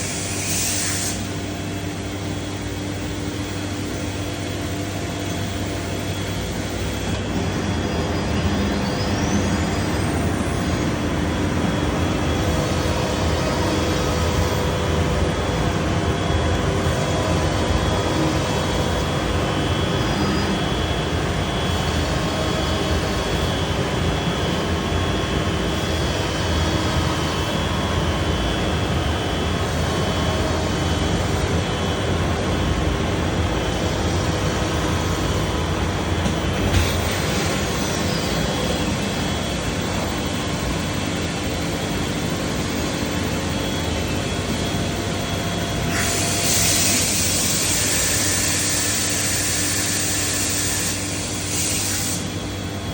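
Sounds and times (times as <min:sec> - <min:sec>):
cnc router machining: 0:00.0 - 0:52.9.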